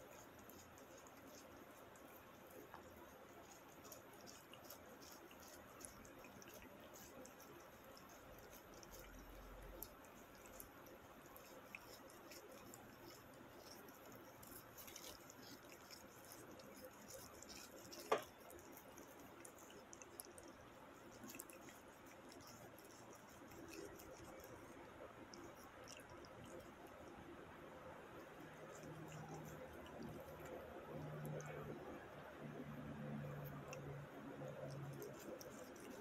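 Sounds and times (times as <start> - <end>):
cat chewing wet smacking: 0.0 - 36.0.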